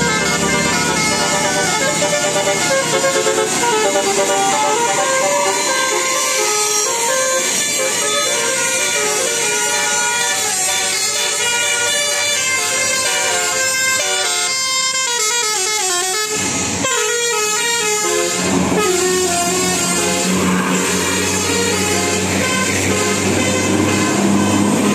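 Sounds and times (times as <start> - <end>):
musical air horn melody: 0.0 - 24.9.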